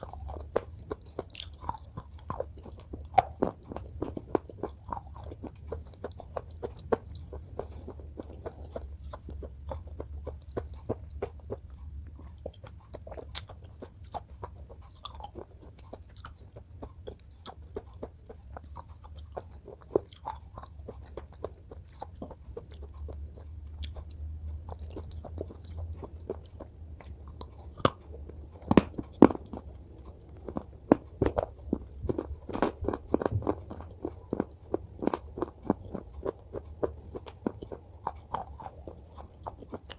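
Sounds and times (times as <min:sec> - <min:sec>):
chewing and crunching: 0:00.0 - 0:39.9
low steady hum: 0:00.0 - 0:39.9.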